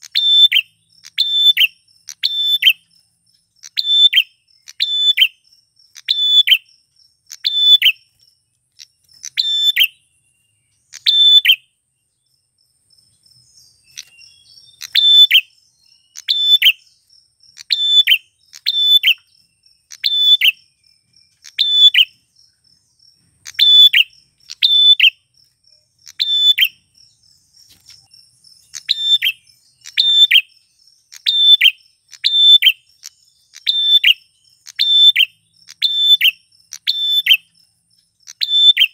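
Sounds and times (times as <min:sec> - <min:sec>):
faint high insect buzz: 0:00.0 - 0:38.9.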